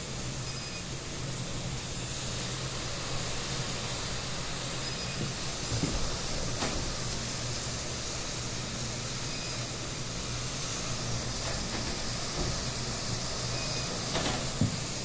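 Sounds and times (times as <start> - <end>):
driving rain: 0.0 - 15.0.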